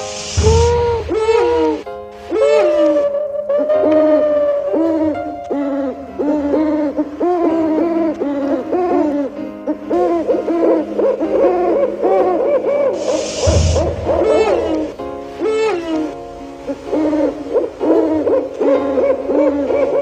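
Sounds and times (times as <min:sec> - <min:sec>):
owl hooting: 0:00.0 - 0:16.1, 0:16.7 - 0:20.0.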